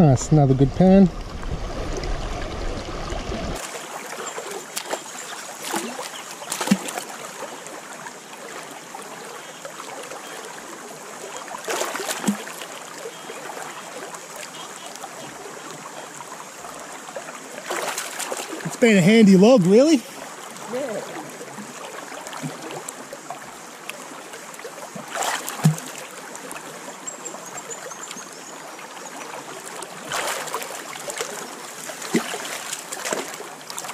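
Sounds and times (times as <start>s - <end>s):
creek water running: 0.0s - 33.9s.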